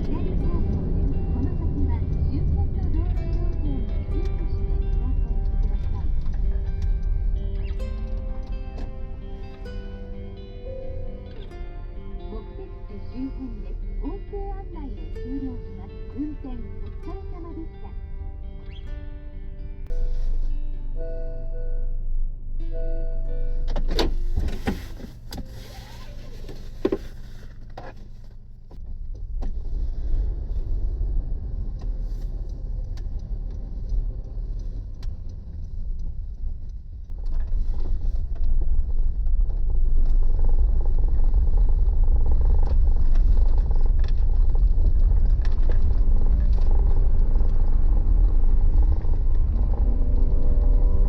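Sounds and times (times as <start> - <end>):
van engine and road rumble: 0.0 - 51.0.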